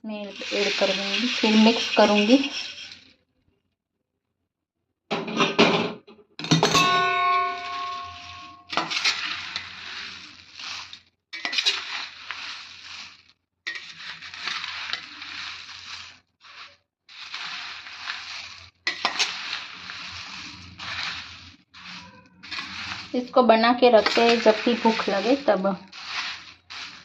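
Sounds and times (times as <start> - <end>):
puffed rice stirred in a pan: 0.1 - 3.1, 6.7 - 27.0.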